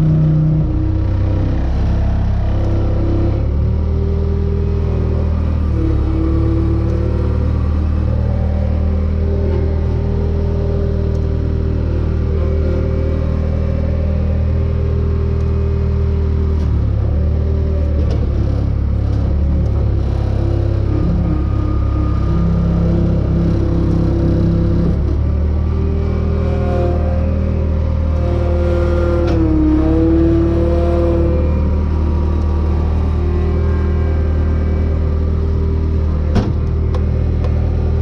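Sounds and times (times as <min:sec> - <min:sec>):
loader engine running: 0:00.0 - 0:38.0.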